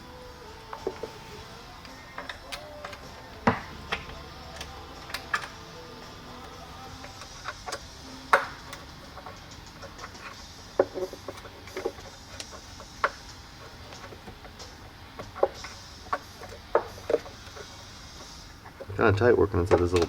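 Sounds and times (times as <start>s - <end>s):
hand tools clicking and knocking: 0.0s - 20.0s.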